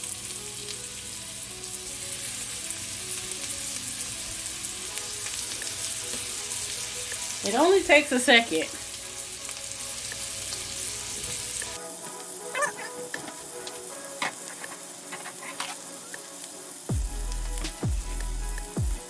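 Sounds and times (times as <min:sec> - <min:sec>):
chicken sizzling in a skillet: 0:00.0 - 0:18.8.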